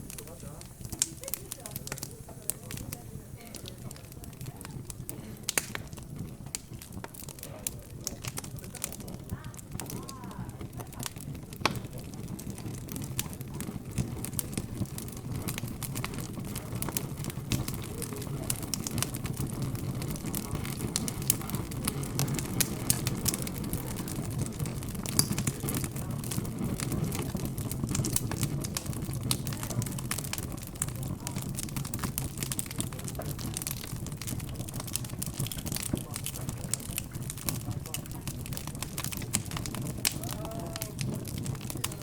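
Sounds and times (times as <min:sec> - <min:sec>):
fire crackling and popping: 0:00.0 - 0:42.0
indistinct background chatter: 0:00.0 - 0:42.0.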